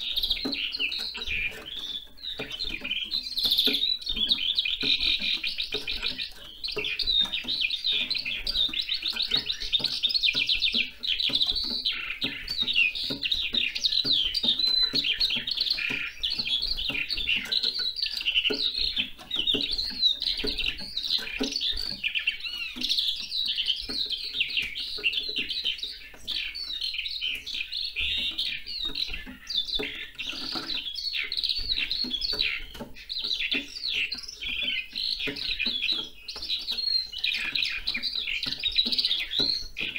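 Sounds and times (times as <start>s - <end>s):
skylark singing trills: 0.0s - 39.9s.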